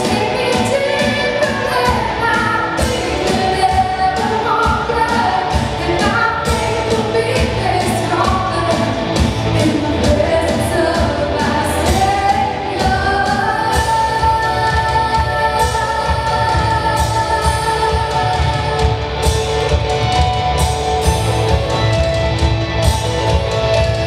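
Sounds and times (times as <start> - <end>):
bass guitar: 0.0 - 24.0
drum kit: 0.0 - 24.0
electric guitars: 0.0 - 24.0.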